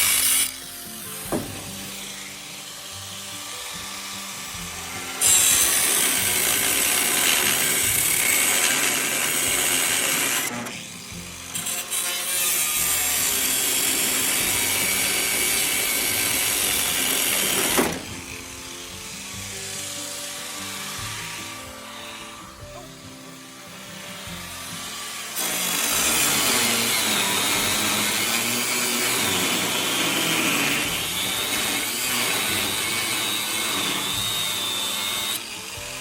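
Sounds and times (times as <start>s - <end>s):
background music: 0.0s - 36.0s
power tool running: 0.0s - 36.0s.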